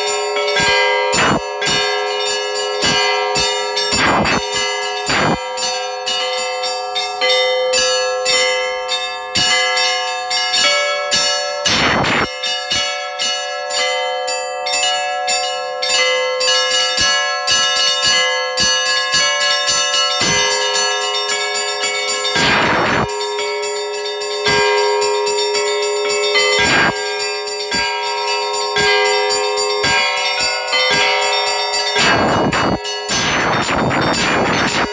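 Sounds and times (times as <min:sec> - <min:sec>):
church bells pealing: 0:00.0 - 0:34.9
heavy bell strikes: 0:00.0 - 0:34.9.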